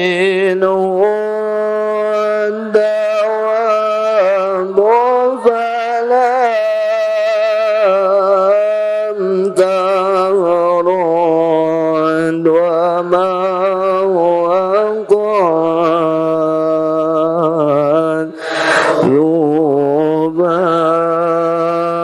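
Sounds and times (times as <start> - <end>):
man chanting slowly: 0.0 - 22.0.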